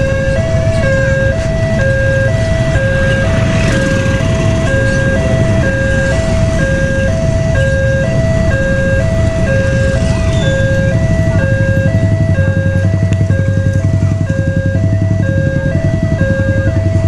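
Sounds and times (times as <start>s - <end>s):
level crossing alarm tones: 0.0s - 17.0s
motorbike engines rumbling: 0.0s - 17.0s.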